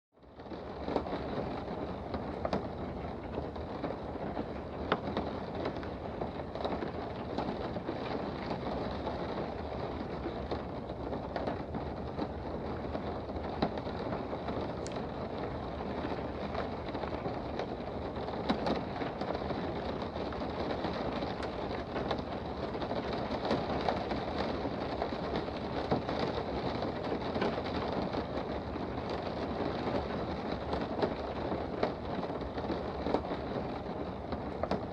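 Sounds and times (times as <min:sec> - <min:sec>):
rain patter heard indoors: 0:00.2 - 0:34.9.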